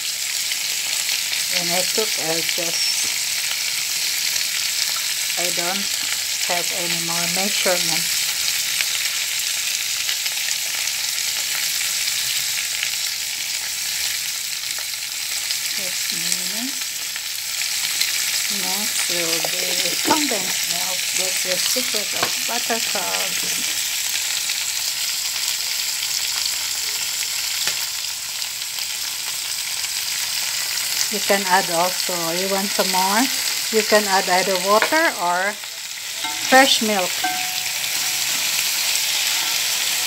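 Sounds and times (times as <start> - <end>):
crab frying in a wok: 0.0 - 40.0
food sizzling in a pot: 0.0 - 40.0.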